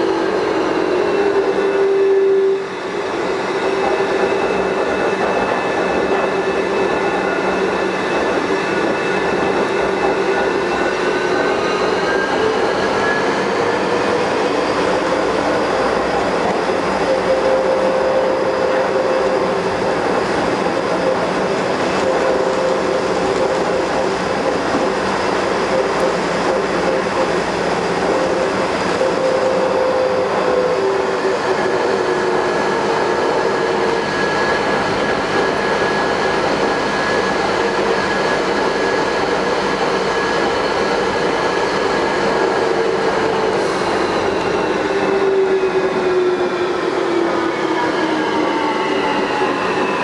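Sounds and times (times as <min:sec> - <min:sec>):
metro train rolling noise: 0:00.0 - 0:50.0.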